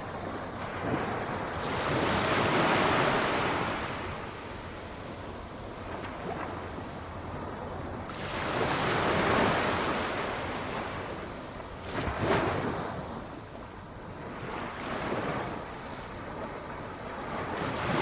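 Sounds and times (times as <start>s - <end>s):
small waves breaking on shore: 0.0s - 18.0s.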